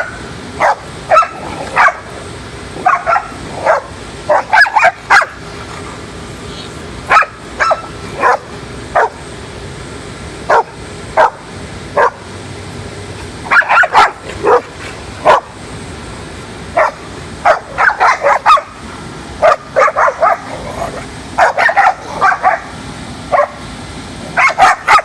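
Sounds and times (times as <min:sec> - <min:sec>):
dogs barking and yipping: 0:00.0 - 0:05.8, 0:07.1 - 0:09.3, 0:10.5 - 0:12.3, 0:13.2 - 0:15.6, 0:16.7 - 0:25.0.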